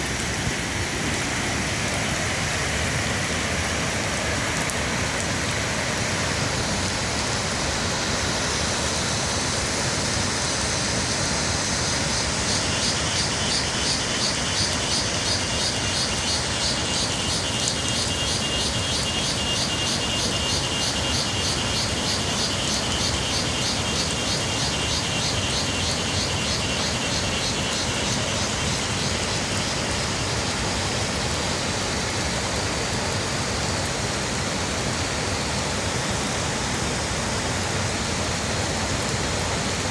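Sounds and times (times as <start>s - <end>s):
falling rain: 0.0s - 39.9s.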